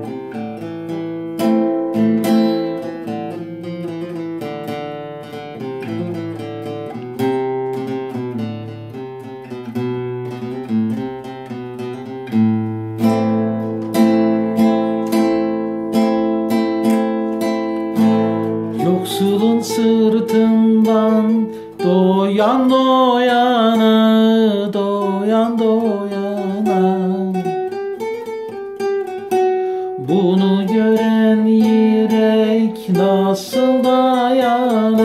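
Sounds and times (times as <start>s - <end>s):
classical guitar playing: 0.0s - 35.0s.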